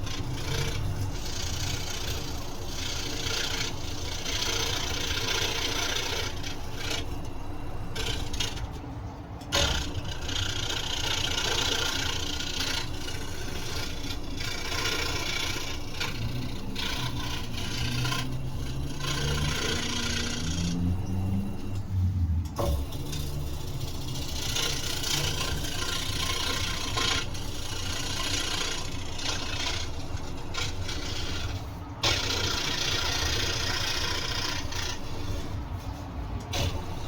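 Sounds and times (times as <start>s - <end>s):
saw motor hum: 0.0s - 37.0s
scroll saw cutting wood: 0.0s - 37.0s.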